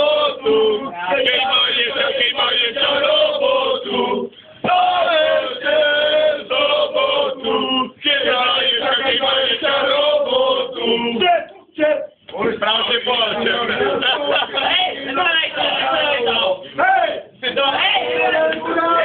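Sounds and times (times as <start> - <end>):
men singing together: 0.0 - 11.3, 12.3 - 16.6.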